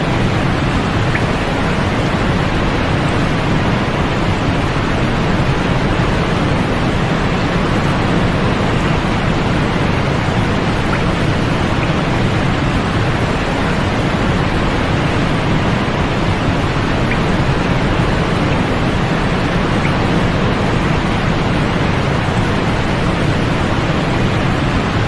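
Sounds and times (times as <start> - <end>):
steady white noise hiss: 0.0 - 25.0.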